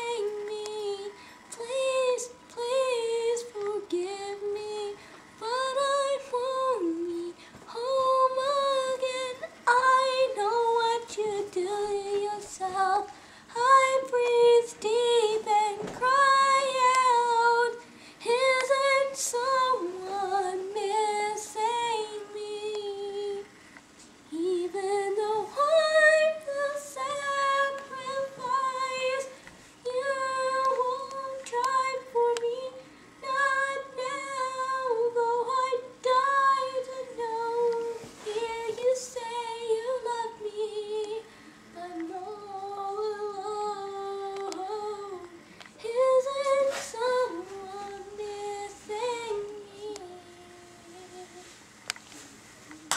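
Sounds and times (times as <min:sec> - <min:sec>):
girl singing: 0:00.0 - 0:23.6, 0:24.3 - 0:51.6.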